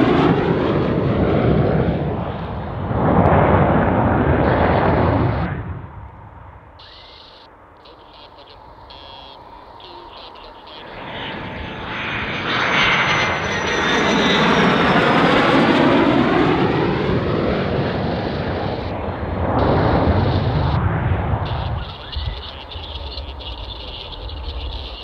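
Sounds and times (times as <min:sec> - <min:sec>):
fighter jet passing close by: 0:00.0 - 0:07.3, 0:08.6 - 0:25.0.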